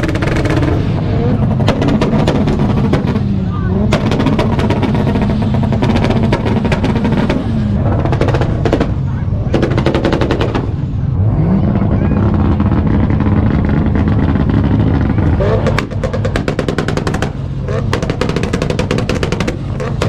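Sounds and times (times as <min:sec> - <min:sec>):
engine on rev limiter: 0:00.0 - 0:20.0
exhaust bangs: 0:00.0 - 0:20.0.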